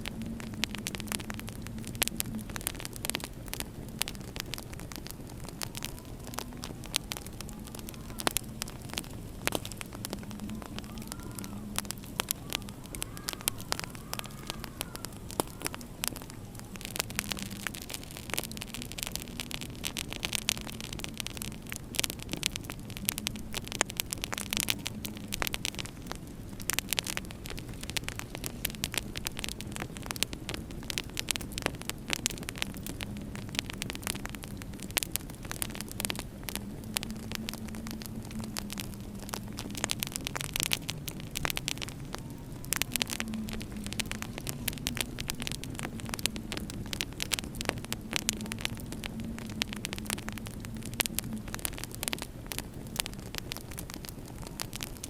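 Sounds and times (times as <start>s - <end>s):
wind howling: 0.0s - 55.0s
wood fire crackling and popping: 0.0s - 55.0s.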